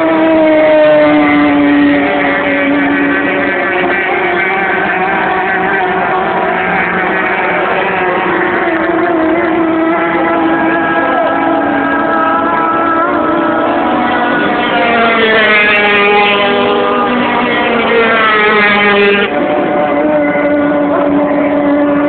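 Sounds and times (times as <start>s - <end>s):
powerboat engine at high revs: 0.0s - 22.0s.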